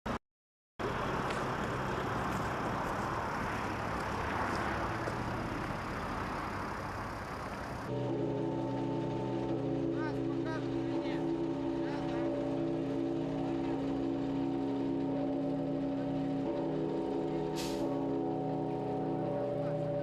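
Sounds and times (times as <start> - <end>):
road noise: 0.8 - 20.0
vehicle engine running: 0.8 - 20.0.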